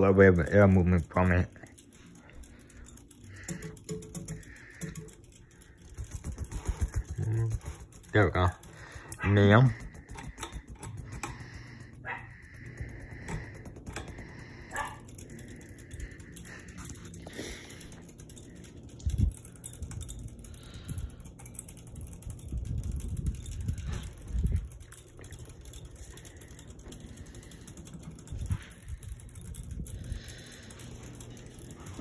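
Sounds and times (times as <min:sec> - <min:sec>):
ceiling fan motor hum: 0:00.0 - 0:32.0
fan ticking: 0:00.0 - 0:32.0.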